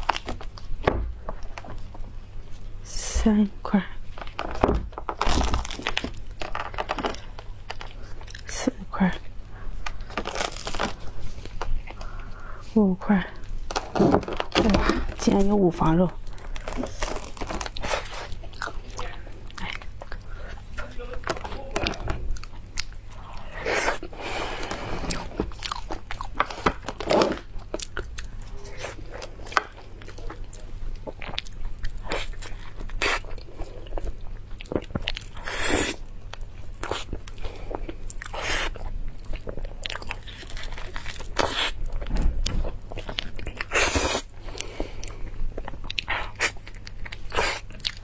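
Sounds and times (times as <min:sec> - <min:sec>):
chewing and wet mouth sounds: 0:06.8 - 0:48.0.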